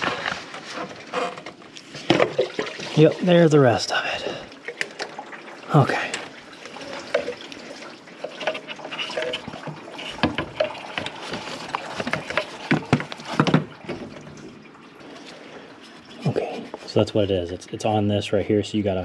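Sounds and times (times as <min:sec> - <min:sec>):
coolant dribbling and splashing: 0:00.0 - 0:19.0.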